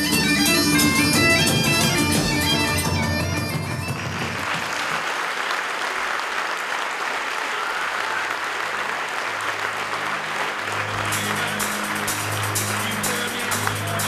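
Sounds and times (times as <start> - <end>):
audience clapping: 1.4 - 14.0.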